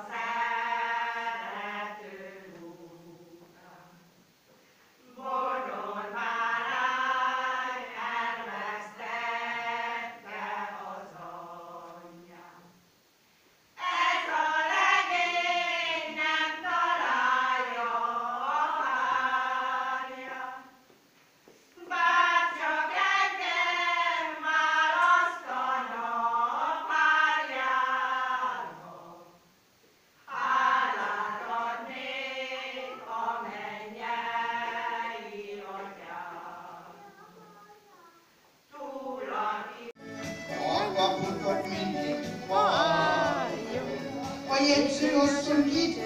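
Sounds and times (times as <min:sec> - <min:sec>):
group singing folk song: 0:00.0 - 0:12.9, 0:13.8 - 0:29.6, 0:30.2 - 0:37.0, 0:38.7 - 0:46.0.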